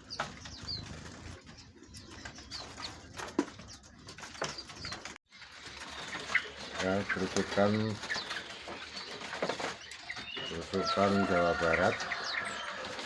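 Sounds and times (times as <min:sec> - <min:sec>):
caged birds chirping: 0:00.0 - 0:13.0.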